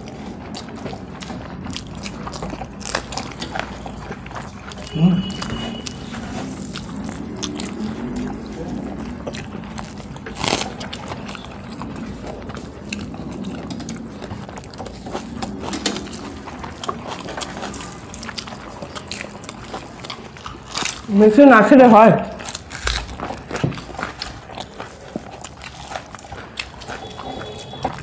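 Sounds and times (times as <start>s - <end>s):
mouths chewing: 0.0s - 28.0s.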